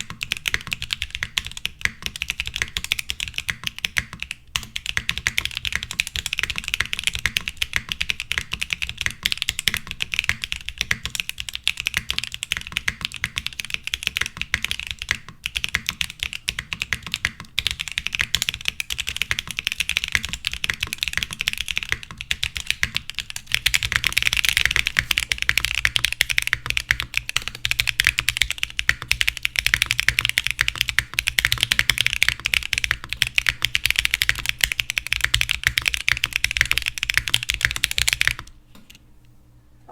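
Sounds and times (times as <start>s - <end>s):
fast mechanical keyboard typing: 0.0s - 39.0s.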